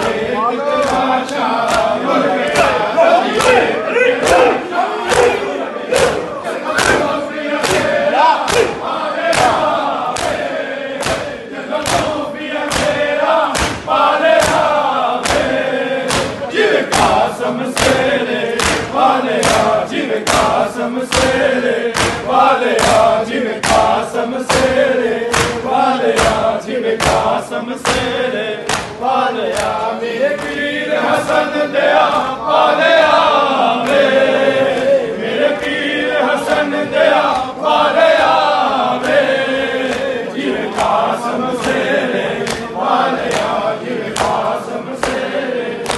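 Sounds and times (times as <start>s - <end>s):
men chanting in unison: 0.0s - 45.9s
hands slapping on chests: 0.8s - 32.3s, 32.9s - 45.9s.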